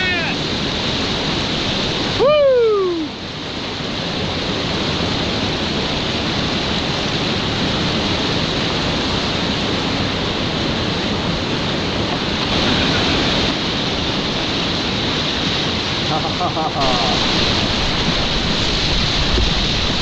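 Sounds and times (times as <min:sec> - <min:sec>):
whitewater rushing: 0:00.0 - 0:20.0.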